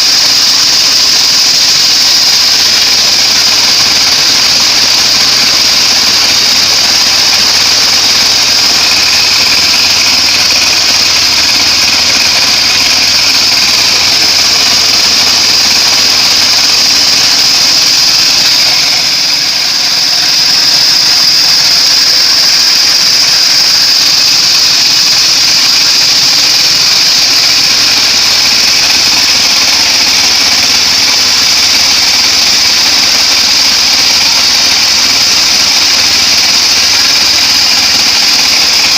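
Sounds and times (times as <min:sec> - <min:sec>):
band sawmill blade whine: 0:00.0 - 0:38.9
sawmill machine drone: 0:00.0 - 0:38.9.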